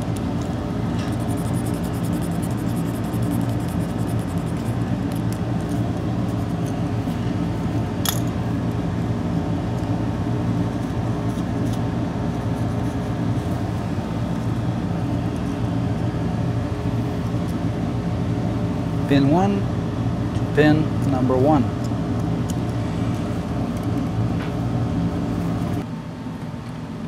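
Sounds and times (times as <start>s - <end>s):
mechanical hum of equipment: 0.0s - 27.0s.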